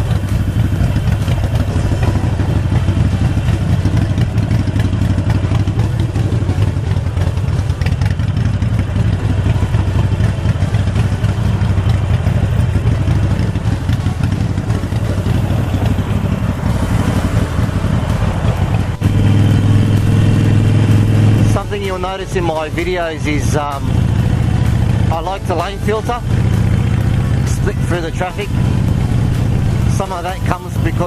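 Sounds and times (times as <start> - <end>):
motorcycle engine throbbing: 0.0 - 31.0.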